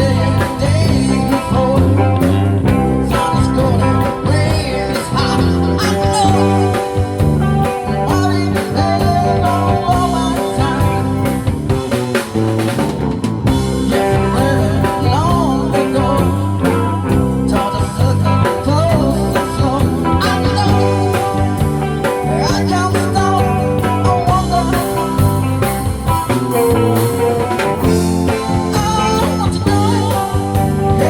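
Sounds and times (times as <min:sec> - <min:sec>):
rock music: 0:00.0 - 0:31.0.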